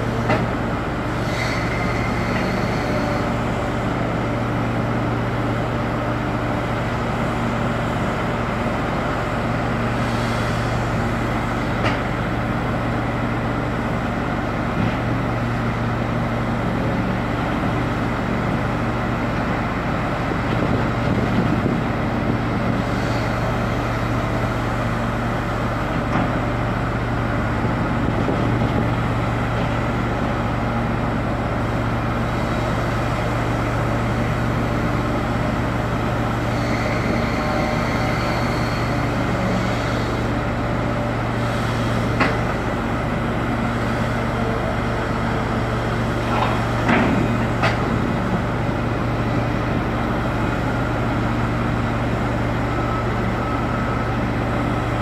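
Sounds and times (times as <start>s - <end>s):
heavy machinery engines droning: 0.0s - 55.0s.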